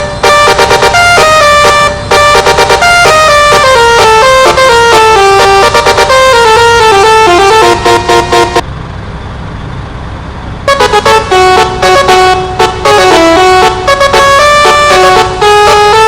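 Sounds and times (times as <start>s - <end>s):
musical truck horn tune: 0.0s - 8.6s, 10.7s - 16.0s.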